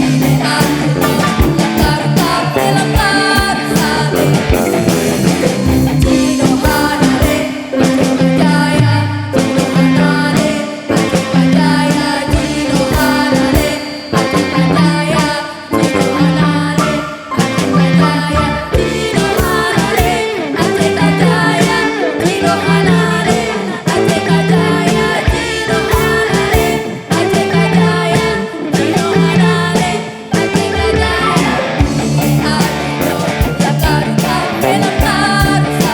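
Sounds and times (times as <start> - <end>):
singing: 0.0 - 4.7, 6.1 - 35.9
drums beating: 0.0 - 35.9
melodic instruments: 0.0 - 35.9.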